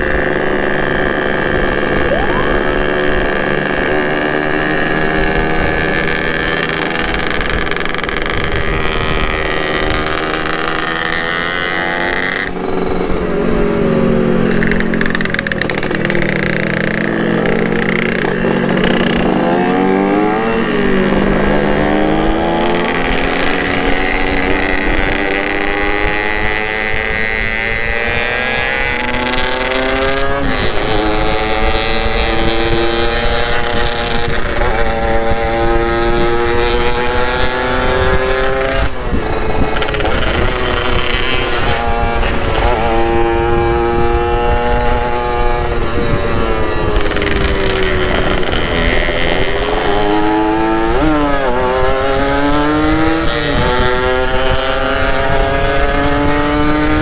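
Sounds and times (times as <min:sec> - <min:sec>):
two-stroke motorcycle engine running: 0:00.0 - 0:57.0.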